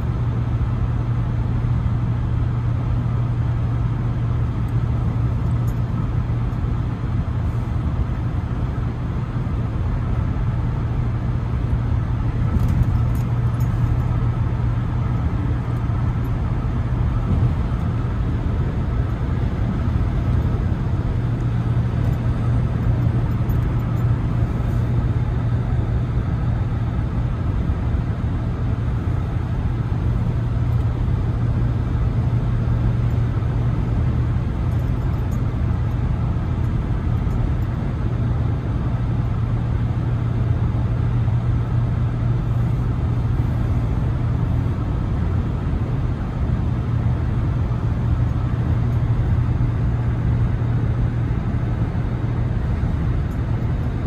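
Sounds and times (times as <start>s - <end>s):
road and wind noise in car cabin: 0.0s - 54.0s.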